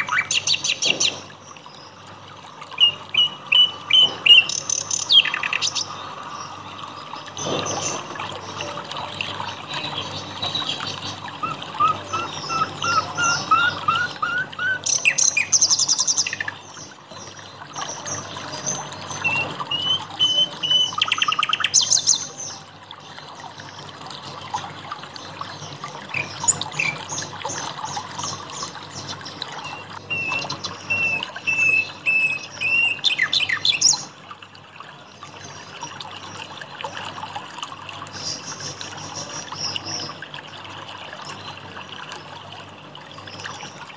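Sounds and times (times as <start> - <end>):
songbirds singing and chirping: 0.0 - 34.2, 34.9 - 43.9
water trickling: 0.0 - 43.9.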